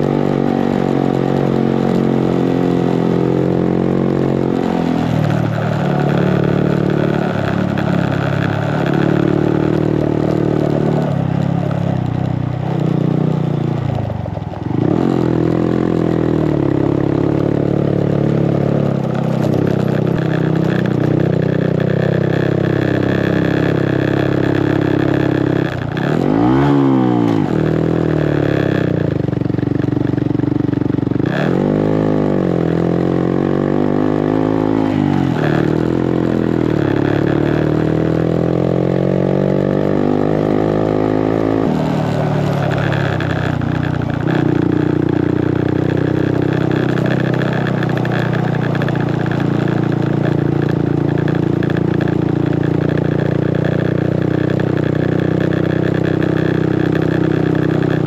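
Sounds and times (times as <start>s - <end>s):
single-cylinder motorcycle engine: 0.0s - 58.0s.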